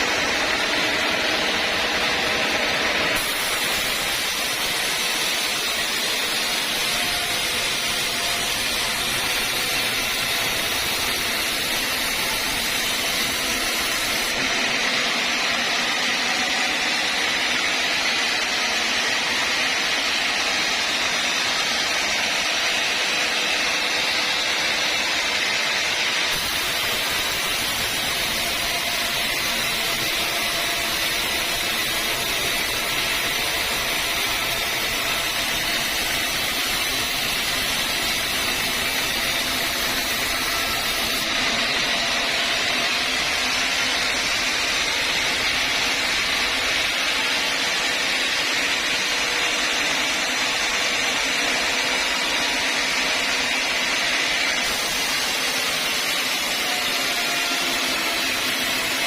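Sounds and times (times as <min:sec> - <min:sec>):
sawmill saw running: 0:00.0 - 0:59.0.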